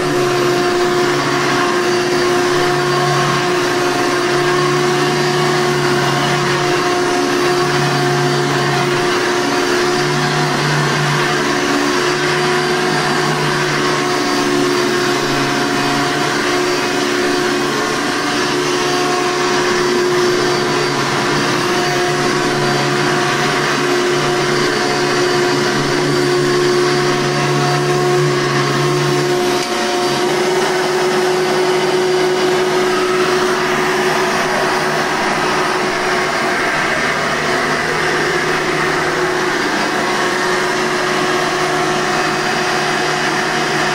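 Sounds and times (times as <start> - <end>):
vacuum cleaner running on carpet: 0.0 - 43.9.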